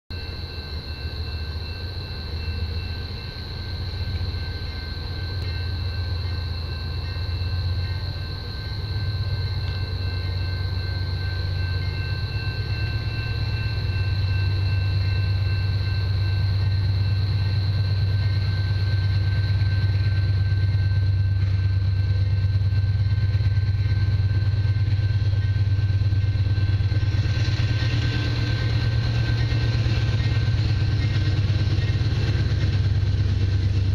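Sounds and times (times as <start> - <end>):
diesel locomotive engine rumble: 0.1 - 33.9.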